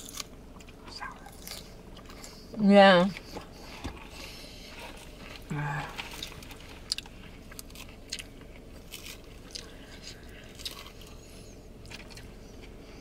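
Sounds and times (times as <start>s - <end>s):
chewing crunchy lettuce: 0.0s - 13.0s.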